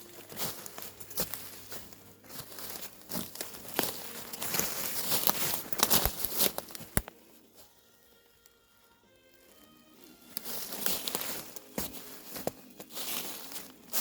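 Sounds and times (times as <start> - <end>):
crinkling crackling rustle: 0.0 - 14.0.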